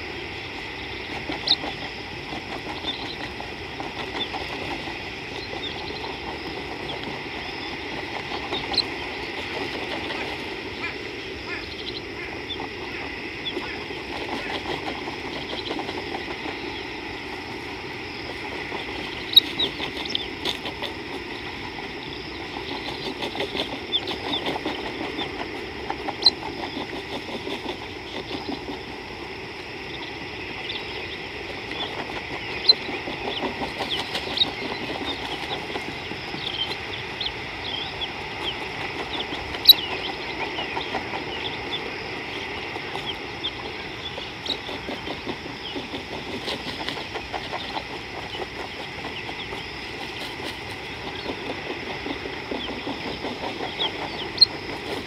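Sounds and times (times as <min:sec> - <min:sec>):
bird chirps: 0:00.0 - 0:21.0, 0:22.0 - 0:28.8, 0:29.6 - 0:55.0
insect drone: 0:00.0 - 0:55.0.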